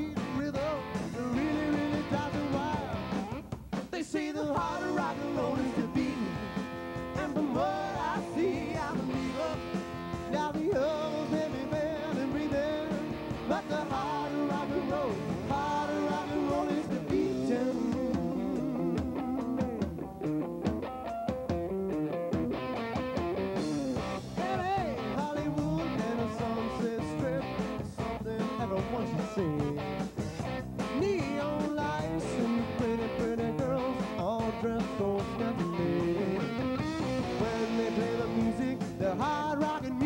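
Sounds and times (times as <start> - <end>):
bending lead guitar melody: 0.0 - 3.8, 4.6 - 40.0
rock band playing: 0.0 - 40.0.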